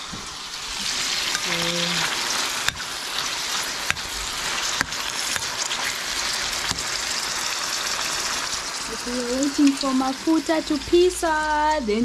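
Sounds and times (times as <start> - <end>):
chicken sizzling in oil: 0.0 - 11.6.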